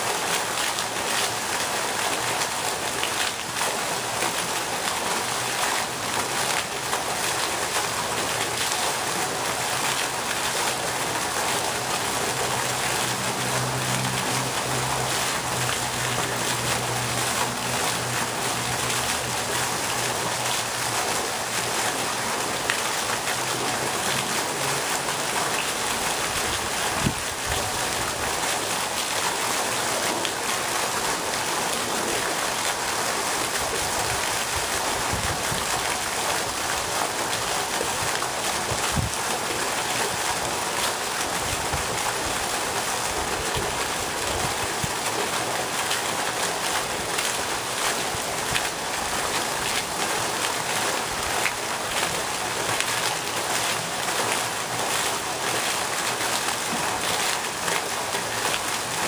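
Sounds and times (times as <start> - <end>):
fountain jet splashing: 0.0 - 59.0.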